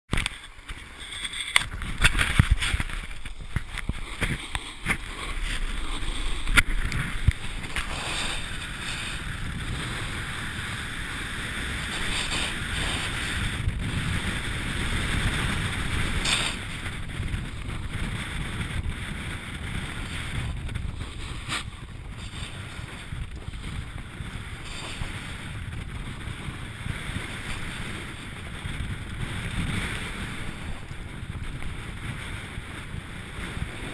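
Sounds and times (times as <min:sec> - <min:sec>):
wind rumbling on microphone: 0:00.1 - 0:33.9
skis hissing over snow: 0:02.4 - 0:17.4, 0:19.8 - 0:33.9.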